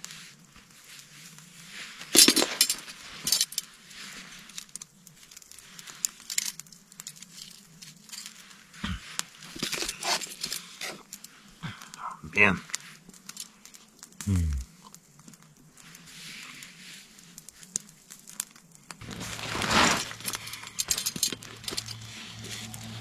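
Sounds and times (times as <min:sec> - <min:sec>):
food wrapping crinkling: 0:01.8 - 0:11.6, 0:12.7 - 0:23.0.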